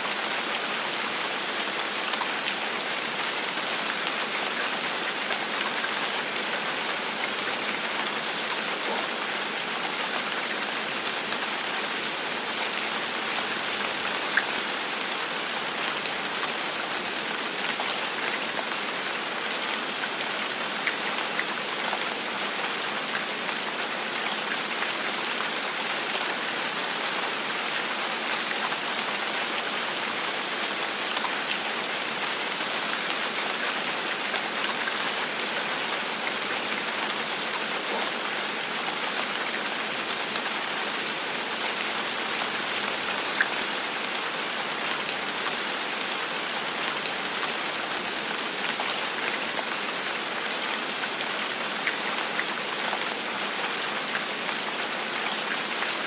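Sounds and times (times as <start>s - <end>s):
gentle rainfall hiss: 0.0s - 56.0s.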